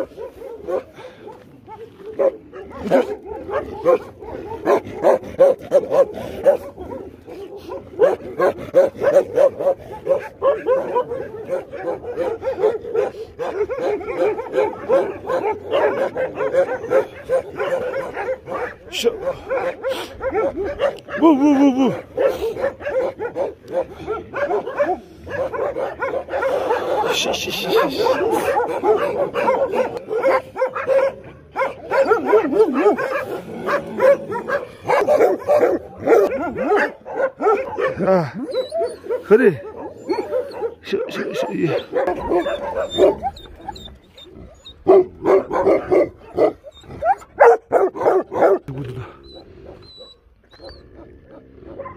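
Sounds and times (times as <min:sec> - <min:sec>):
dogs yipping and barking: 0:00.0 - 0:51.9.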